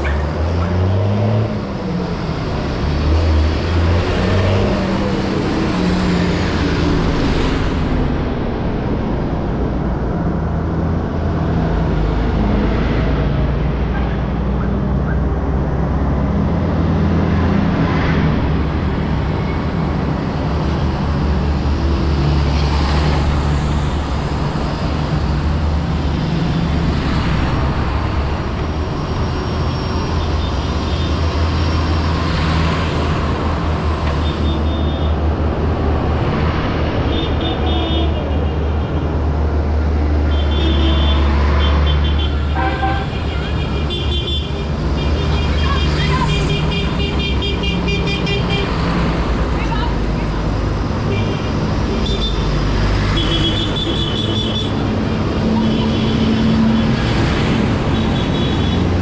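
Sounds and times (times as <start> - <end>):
tractor engines droning: 0.0 - 59.0.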